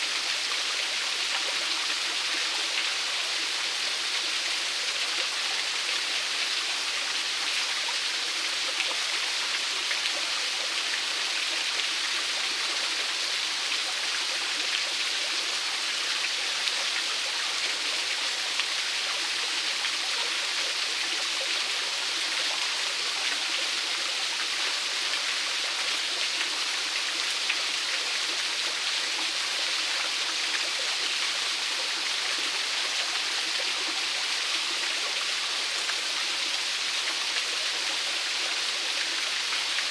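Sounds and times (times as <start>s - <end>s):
small waterfall splashing on rocks: 0.0s - 39.9s.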